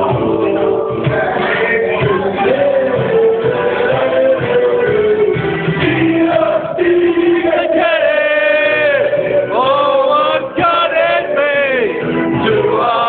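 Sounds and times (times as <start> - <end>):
choir singing long notes: 0.0 - 13.0.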